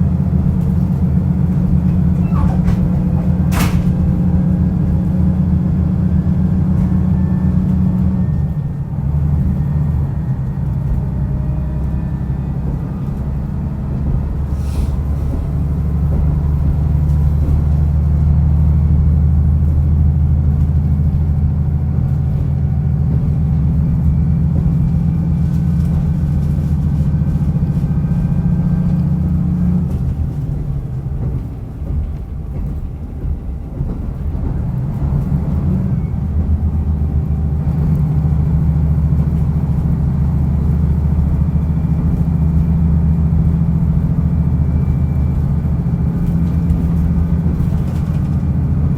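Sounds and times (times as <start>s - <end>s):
diesel railcar engine droning: 0.0s - 48.9s.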